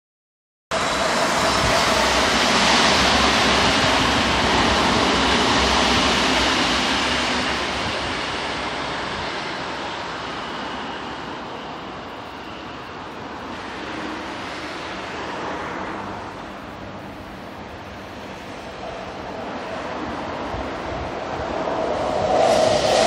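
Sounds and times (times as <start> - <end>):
electric train running on track: 0.7 - 23.0.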